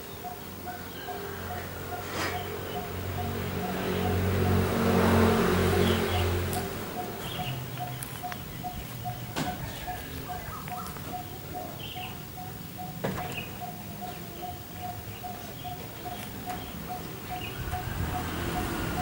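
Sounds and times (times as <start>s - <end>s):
birds chirping faintly: 0.0s - 19.0s
bird repeating low note: 2.7s - 19.0s.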